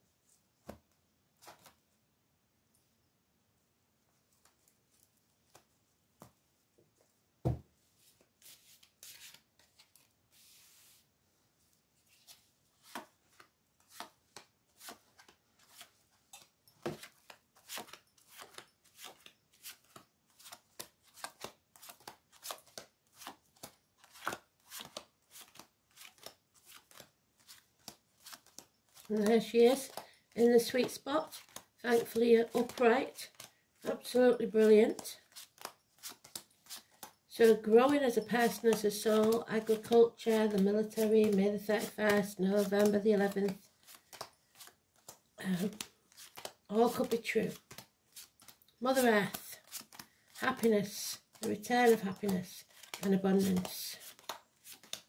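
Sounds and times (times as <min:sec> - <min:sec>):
cards being shuffled: 0:01.4 - 0:01.8, 0:08.0 - 0:11.0, 0:12.1 - 0:55.0.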